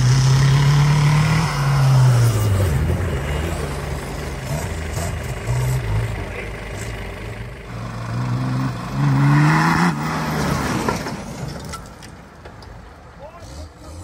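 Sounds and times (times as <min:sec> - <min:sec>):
off-road engine revving: 0:00.0 - 0:11.4, 0:13.2 - 0:14.0.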